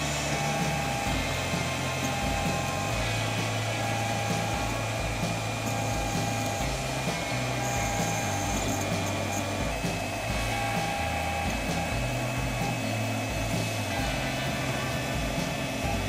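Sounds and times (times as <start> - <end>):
cooling fan whirring: 0.0 - 16.0
stepper motors humming: 0.0 - 16.0.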